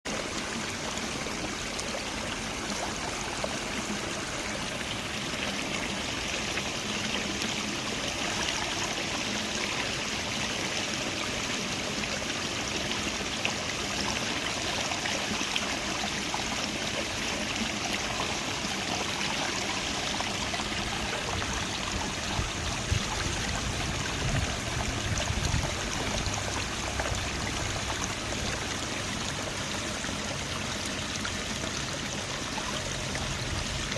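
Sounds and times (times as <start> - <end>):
creek water babbling: 0.1 - 33.9.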